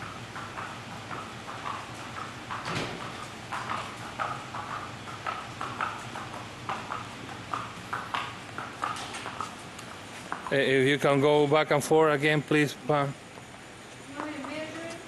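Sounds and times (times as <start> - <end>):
horse hooves on concrete: 0.0 - 11.4, 13.3 - 15.0.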